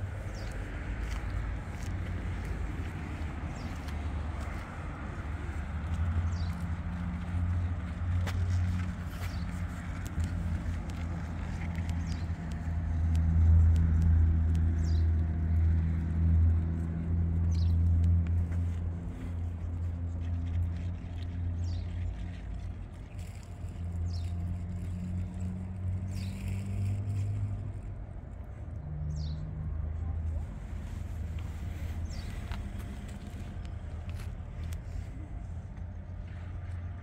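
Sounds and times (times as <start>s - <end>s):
vehicle engine humming: 0.0s - 37.0s.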